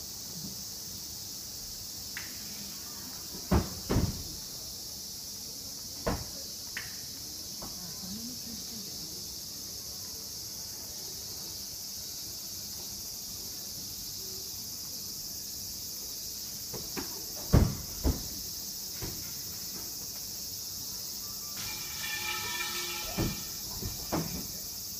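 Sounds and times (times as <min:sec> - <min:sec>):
insects shrilling: 0:00.0 - 0:24.9.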